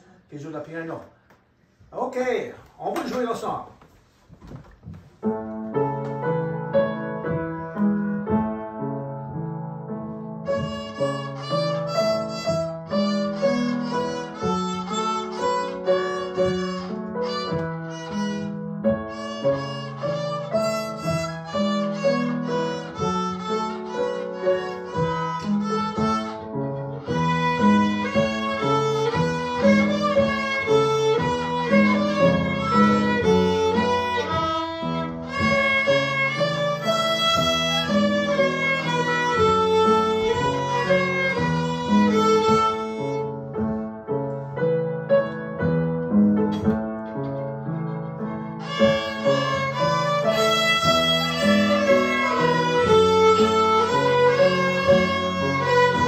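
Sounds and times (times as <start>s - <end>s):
piano accompaniment: 4.4s - 56.0s
violin playing a tune: 9.8s - 46.4s, 47.0s - 56.0s.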